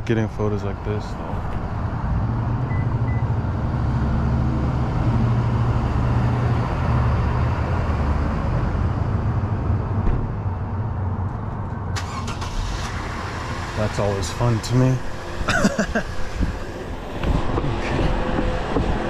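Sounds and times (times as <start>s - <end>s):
engine humming: 0.0s - 19.0s
street traffic noise: 0.0s - 19.0s.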